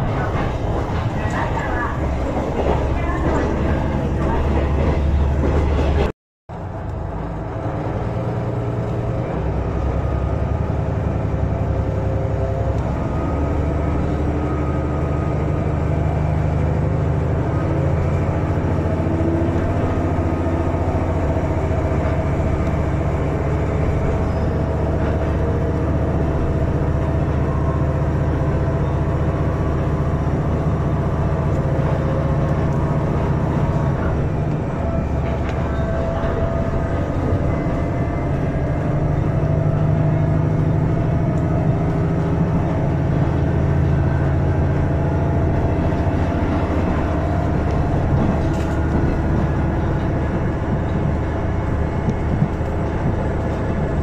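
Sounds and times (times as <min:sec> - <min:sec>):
diesel railcar engine droning: 0:00.0 - 0:54.0
rumble of train running gear: 0:00.0 - 0:54.0.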